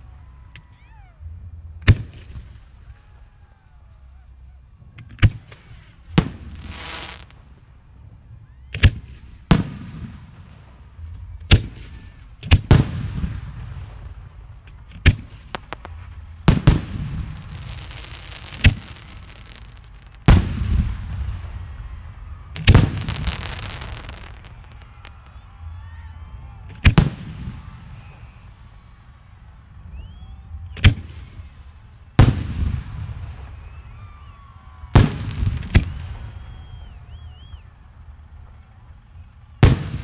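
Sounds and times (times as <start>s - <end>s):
rolling rumble: 0.0s - 40.0s
fireworks hissing and crackling: 4.2s - 40.0s
fireworks bangs: 4.9s - 40.0s.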